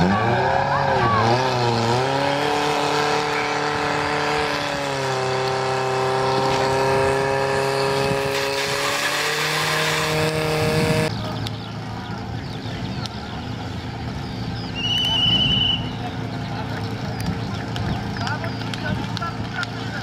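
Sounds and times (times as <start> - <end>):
pump engine running at high revs: 0.0 - 20.0.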